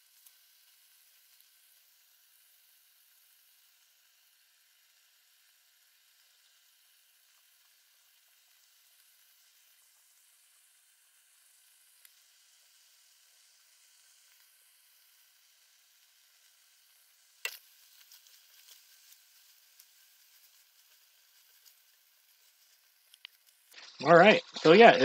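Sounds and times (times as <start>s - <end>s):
meat sizzling in fat: 0.0s - 25.0s.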